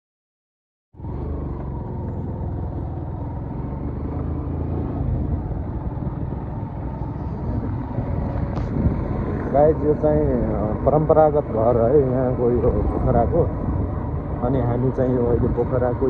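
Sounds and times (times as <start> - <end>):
vehicle engine rumbling: 1.0 - 16.0.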